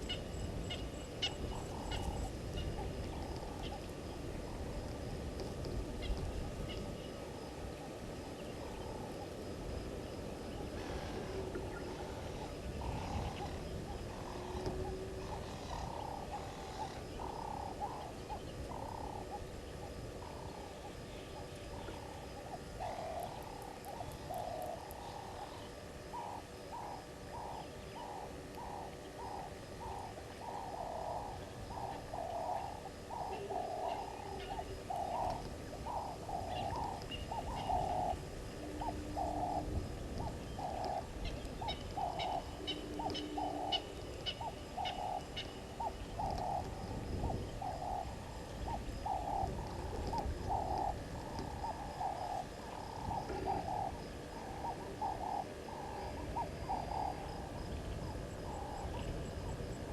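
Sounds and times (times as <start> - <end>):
dove cooing: 0.0 - 59.9
low background rumble: 0.0 - 59.9.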